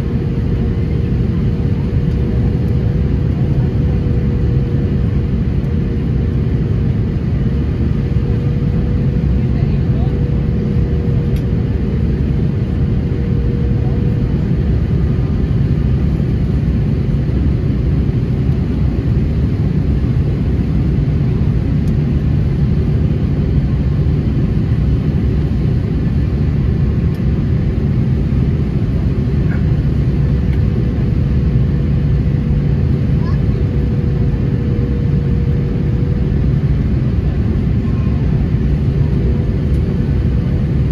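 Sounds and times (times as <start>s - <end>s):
aircraft engine and airflow rumble: 0.0s - 40.9s.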